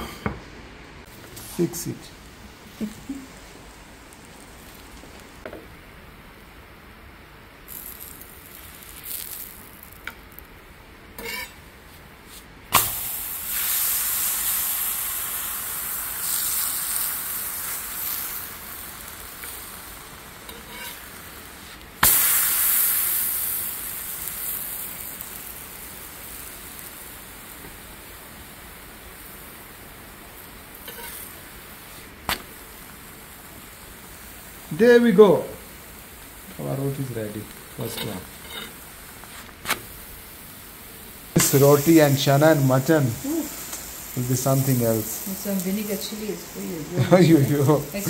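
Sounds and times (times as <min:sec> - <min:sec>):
oil sizzling on a griddle: 0:01.0 - 0:48.0.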